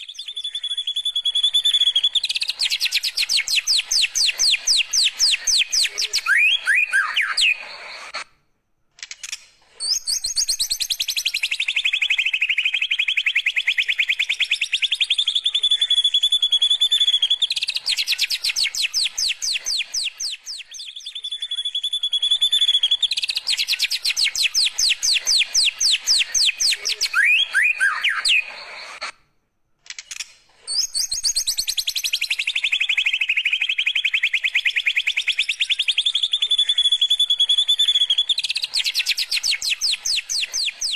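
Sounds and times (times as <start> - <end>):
bird singing fast trill: 0.0 - 8.1, 9.8 - 29.0, 30.7 - 40.9.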